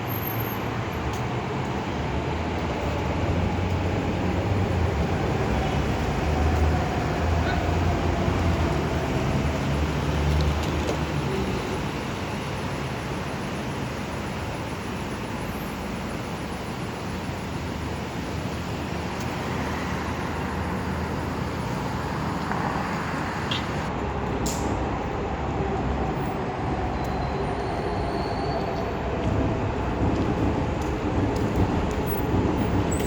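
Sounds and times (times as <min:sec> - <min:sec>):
city road traffic rumble: 0:00.0 - 0:33.0.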